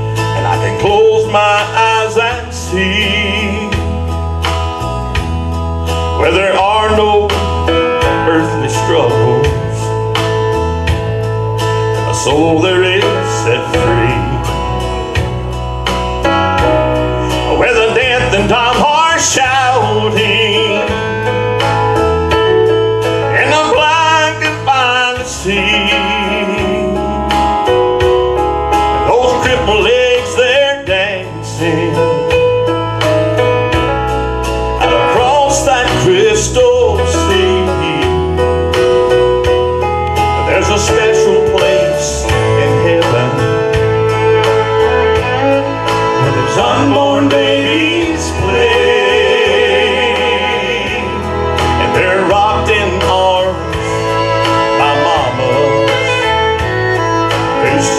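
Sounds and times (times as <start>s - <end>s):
man singing: 0.0s - 4.2s, 6.1s - 10.2s, 12.0s - 15.2s, 16.6s - 21.9s, 23.1s - 27.8s, 28.9s - 32.7s, 34.7s - 39.1s, 40.4s - 57.9s
country-style gospel music: 0.0s - 57.9s.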